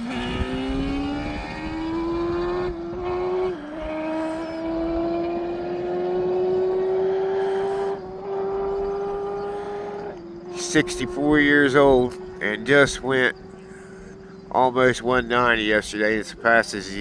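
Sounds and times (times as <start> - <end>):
motorcycle accelerating at full throttle: 0.0 - 17.0.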